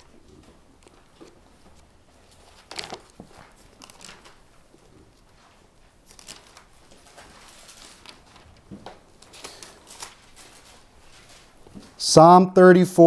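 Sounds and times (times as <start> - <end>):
thin pages rustling: 0.0 - 12.0.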